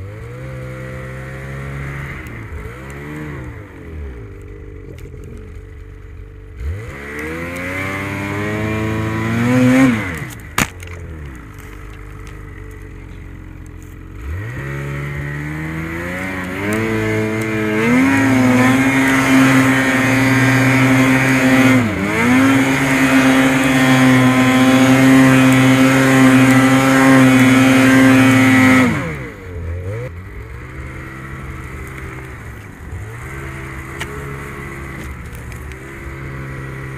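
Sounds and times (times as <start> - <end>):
snowmobile engine revving: 0.0 - 36.9.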